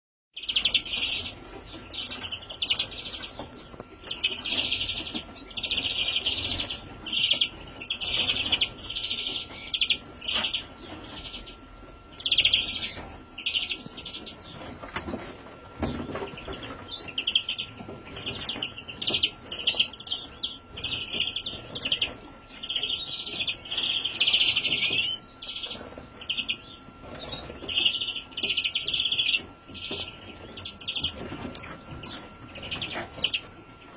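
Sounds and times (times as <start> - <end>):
young finches chirping: 0.4 - 33.5.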